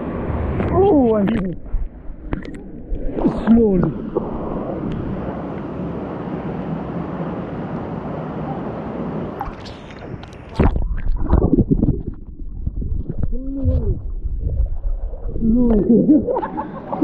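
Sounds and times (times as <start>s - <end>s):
water splashing and sloshing: 0.0s - 8.0s, 9.2s - 17.0s
water rushing: 0.0s - 17.0s.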